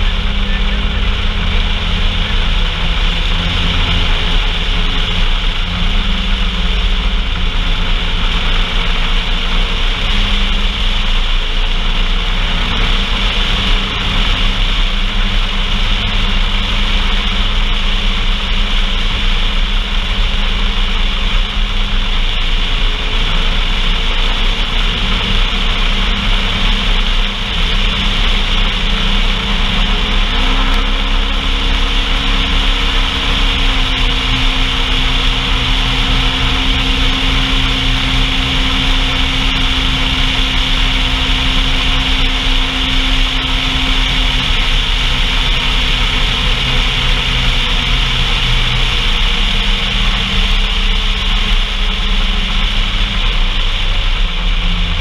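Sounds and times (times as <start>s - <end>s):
constant hiss: 0.0s - 55.0s
off-road vehicle engine running: 0.0s - 55.0s.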